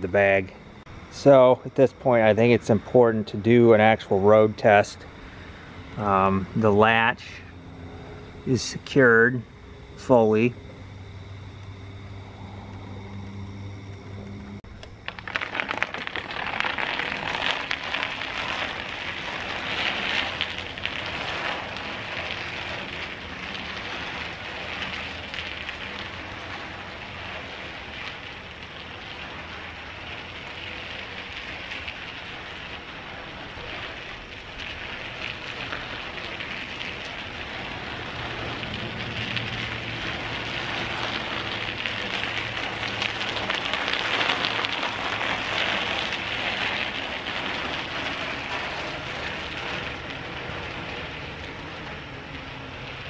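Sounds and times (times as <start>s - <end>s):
bicycle tyres crunching on pavement: 0.0s - 53.0s.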